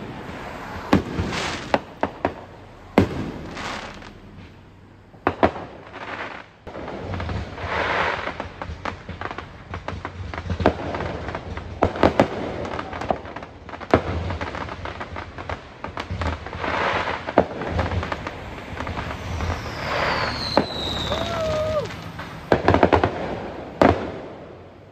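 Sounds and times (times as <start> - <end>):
fireworks bangs and pops: 0.0 - 24.9
fireworks crackling: 0.0 - 24.9.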